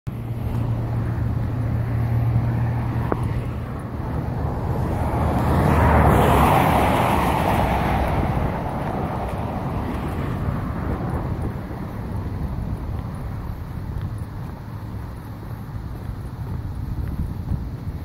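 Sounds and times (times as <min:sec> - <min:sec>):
road traffic engine hum: 0:00.1 - 0:18.0
vehicle passing: 0:00.1 - 0:18.0.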